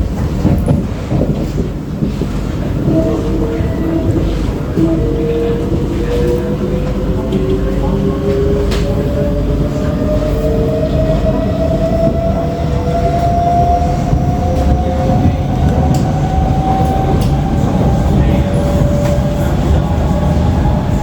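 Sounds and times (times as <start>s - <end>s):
wheels rumbling on track: 0.0s - 21.0s.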